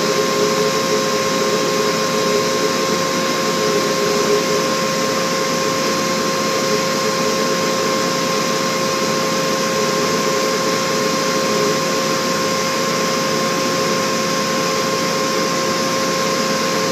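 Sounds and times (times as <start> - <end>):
blower whine: 0.0 - 16.9.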